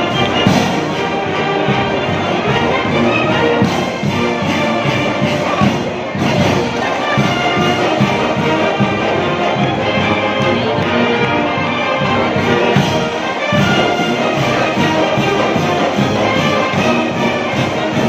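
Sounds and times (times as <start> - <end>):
brass instruments playing: 0.0 - 18.0
steady drum beat: 0.0 - 18.0.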